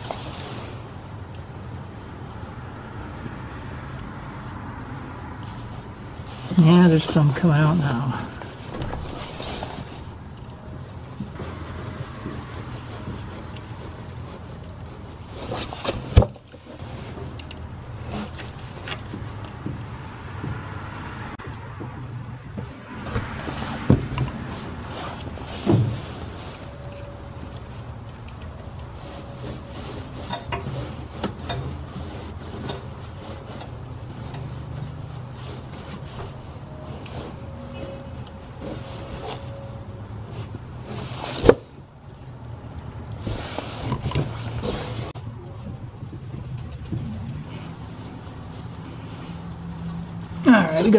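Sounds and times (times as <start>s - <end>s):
rustling and handling noises: 0.0s - 50.9s.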